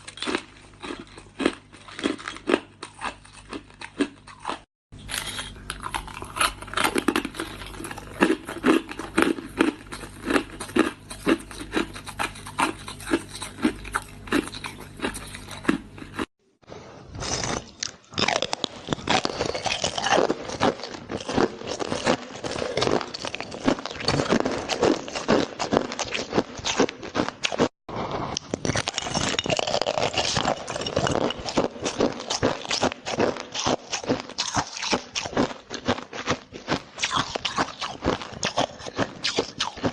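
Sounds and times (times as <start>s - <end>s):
chewing hard ice: 0.0s - 16.3s, 17.3s - 27.7s, 28.3s - 39.9s.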